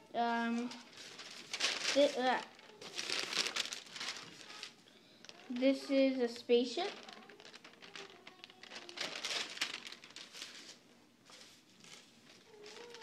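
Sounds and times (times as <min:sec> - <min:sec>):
paper rustling: 0:00.4 - 0:13.0.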